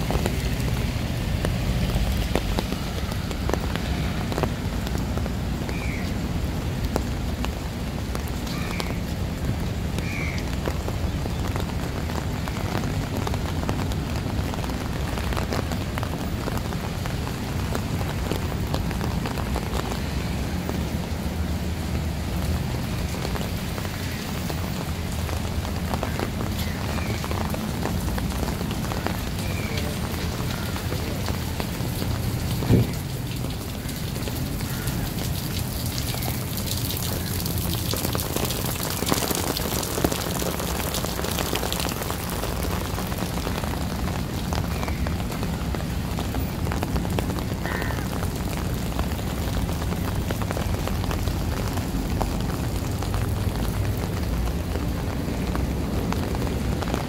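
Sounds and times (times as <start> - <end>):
rain on wet paving: 0.0 - 57.0.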